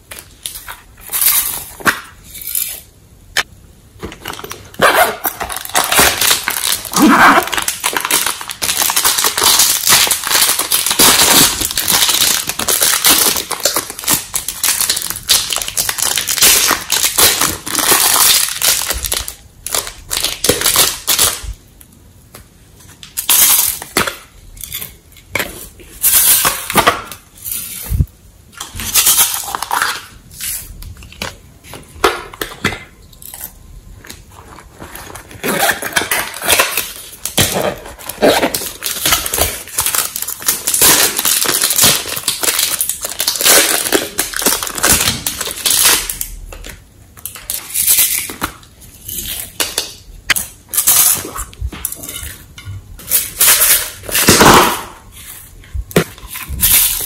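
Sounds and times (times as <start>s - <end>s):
plastic wrappers crinkling: 4.0s - 21.6s, 28.6s - 57.0s.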